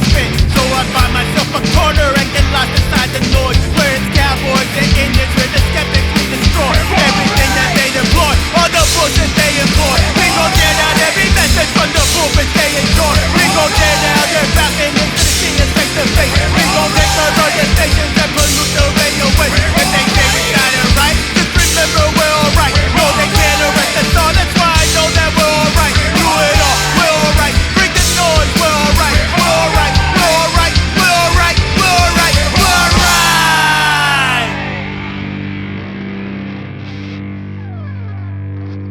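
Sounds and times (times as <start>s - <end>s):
pounding drums: 0.0s - 34.6s
distorted electric guitar: 0.0s - 38.9s
punk rock song: 0.0s - 38.9s.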